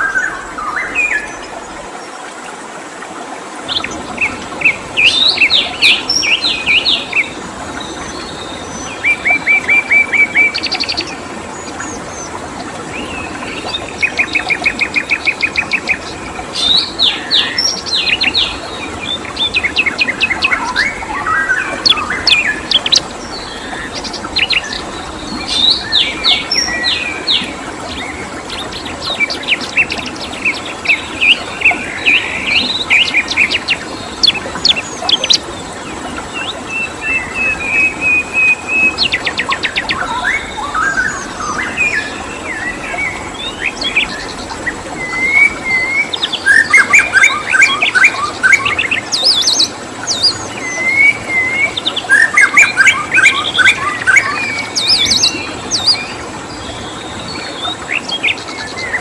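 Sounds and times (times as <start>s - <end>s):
songbirds chirping: 0.0s - 2.6s, 3.6s - 59.0s
flowing stream water: 0.0s - 59.0s.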